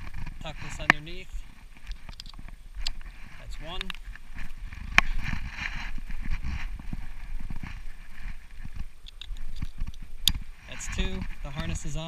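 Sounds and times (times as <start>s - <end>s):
harness rustling and scuffing: 0.0s - 12.0s.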